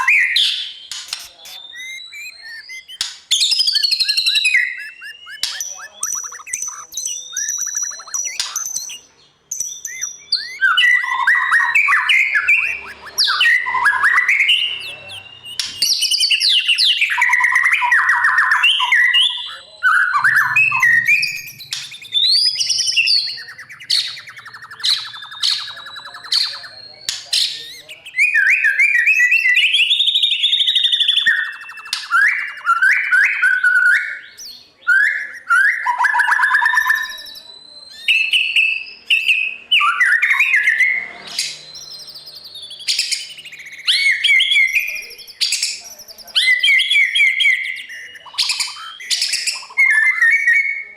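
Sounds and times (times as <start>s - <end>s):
bird singing varied song: 0.0s - 50.9s.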